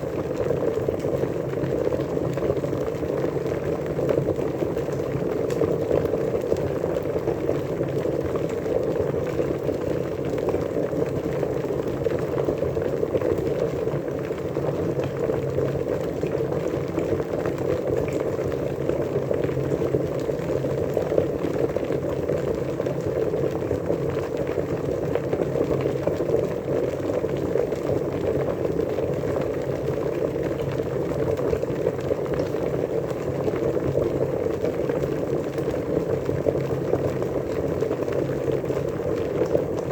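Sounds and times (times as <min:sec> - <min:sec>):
water bubbling at a rolling boil: 0:00.0 - 0:39.9.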